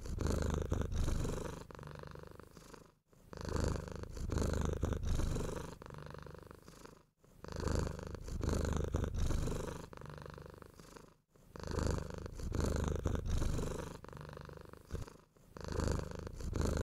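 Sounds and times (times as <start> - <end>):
cat purring: 0.0 - 16.9.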